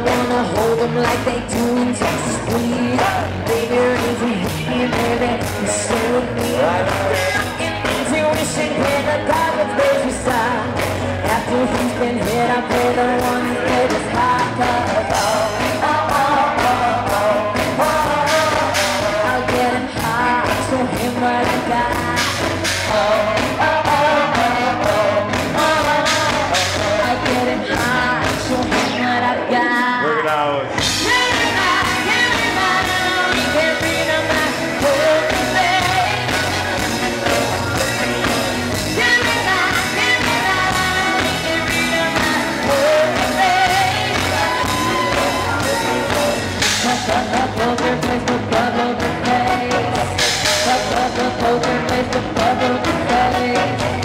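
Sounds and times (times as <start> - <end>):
lead singer singing: 0.0 - 54.0
live rock band playing: 0.0 - 54.0.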